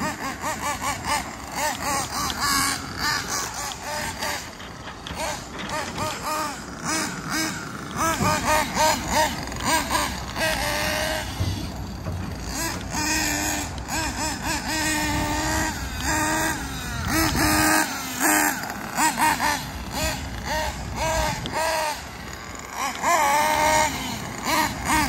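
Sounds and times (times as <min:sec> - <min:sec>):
model engine revving: 0:00.0 - 0:25.0.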